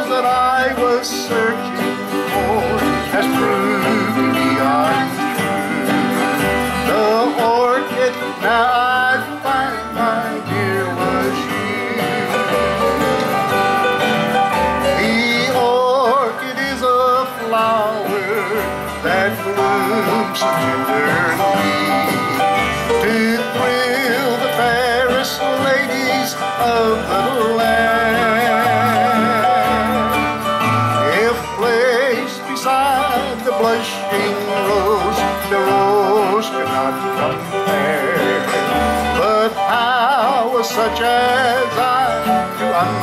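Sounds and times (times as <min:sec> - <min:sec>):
country band playing: 0:00.0 - 0:43.0
upright bass notes: 0:00.0 - 0:43.0
wavering lead melody: 0:00.0 - 0:43.0.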